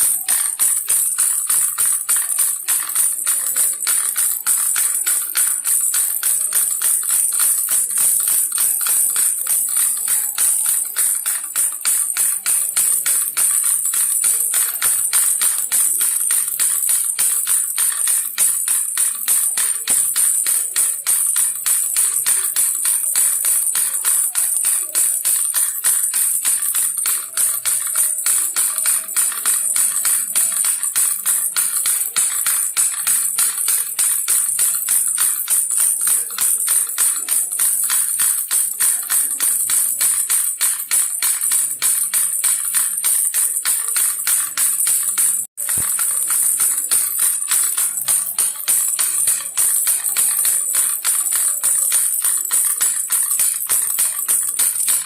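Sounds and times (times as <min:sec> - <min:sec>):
baby rattle shaken: 0:00.0 - 0:55.0.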